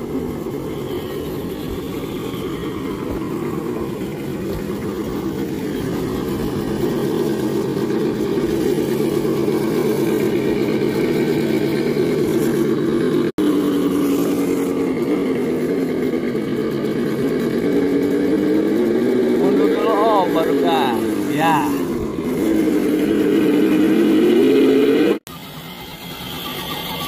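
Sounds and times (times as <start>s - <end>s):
electric motor and gears whining: 0.0s - 27.0s.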